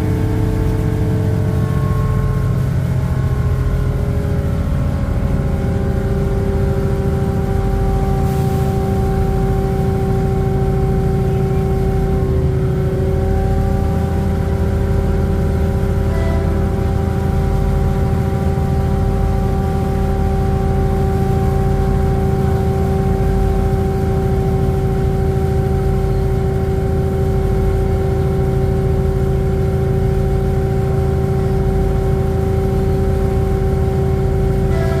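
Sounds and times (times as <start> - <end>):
diesel railcar engine drone: 0.0 - 35.0
transmission whining tones: 0.0 - 35.0.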